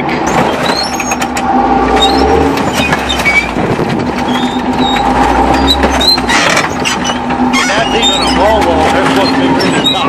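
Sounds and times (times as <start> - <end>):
steel tracks clattering and squeaking: 0.0 - 10.0
tank engine drone: 0.0 - 10.0.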